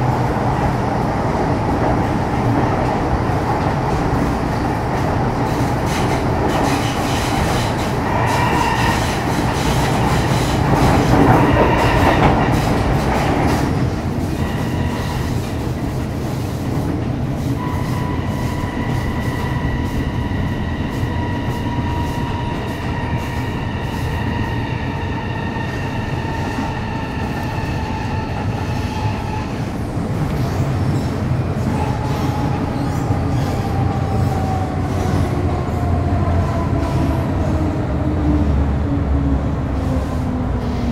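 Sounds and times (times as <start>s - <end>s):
train rumbling along track: 0.0s - 40.9s.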